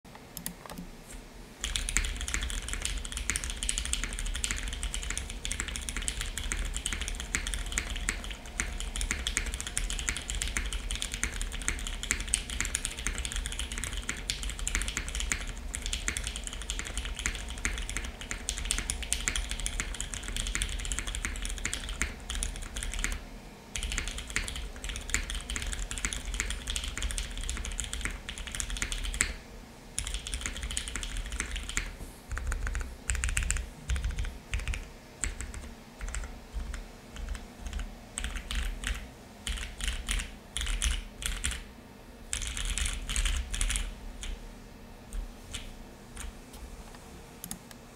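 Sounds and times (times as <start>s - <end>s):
mechanical keyboard typing: 1.6s - 23.2s, 23.8s - 29.4s, 30.0s - 41.6s, 42.3s - 44.4s.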